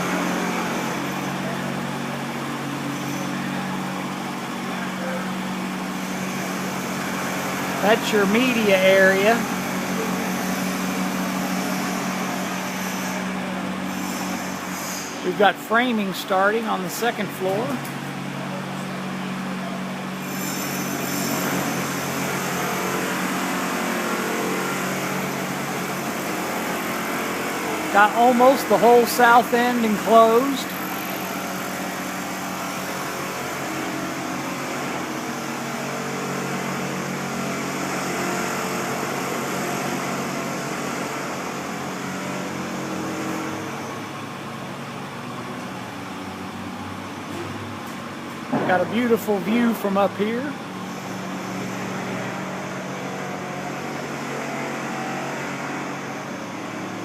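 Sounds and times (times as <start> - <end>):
machinery humming: 0.0 - 57.0.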